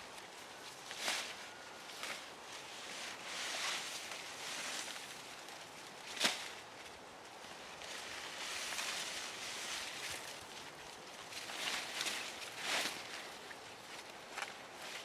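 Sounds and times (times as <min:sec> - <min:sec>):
corn stalks rustling: 0:00.0 - 0:15.0.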